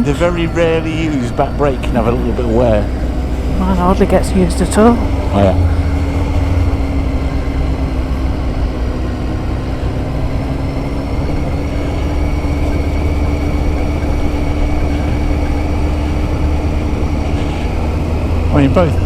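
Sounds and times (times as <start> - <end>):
motorcycle engine revving high: 0.0 - 19.0
wind and road rumble: 0.0 - 19.0.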